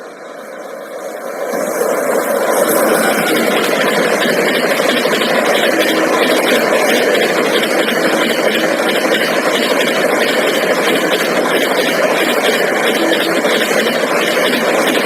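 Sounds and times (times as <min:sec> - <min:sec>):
train rumbling at high speed: 0:00.0 - 0:15.0.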